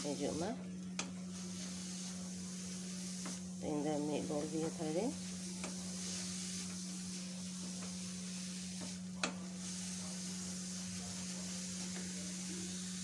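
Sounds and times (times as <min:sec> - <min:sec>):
steady low hum: 0:00.0 - 0:13.0
vegetables sizzling in a pan: 0:00.0 - 0:13.0
spatula stirring in a metal pan: 0:01.0 - 0:12.4.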